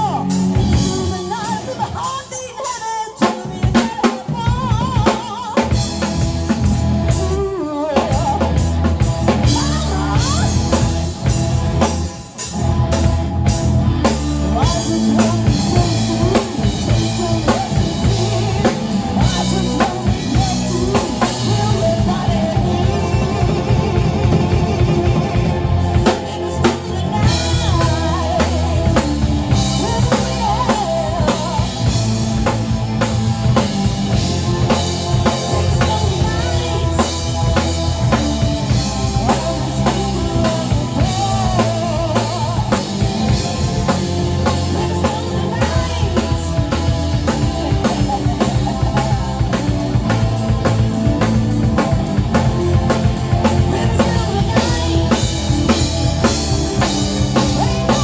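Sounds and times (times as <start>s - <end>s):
bass guitar: 0.0s - 58.0s
drum kit beat: 0.0s - 58.0s
electric guitars: 0.0s - 58.0s.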